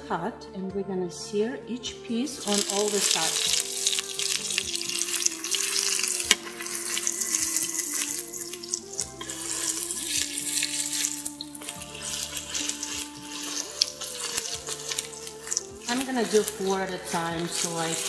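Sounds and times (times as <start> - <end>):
meat sizzling in hot oil: 2.4 - 18.0.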